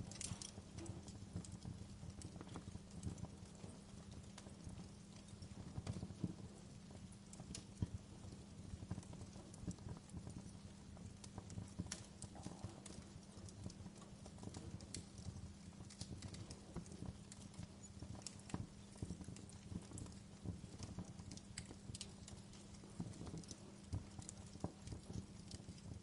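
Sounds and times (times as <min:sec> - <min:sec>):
fire crackling and popping: 0:00.0 - 0:26.0
low fire rumble: 0:00.0 - 0:26.0.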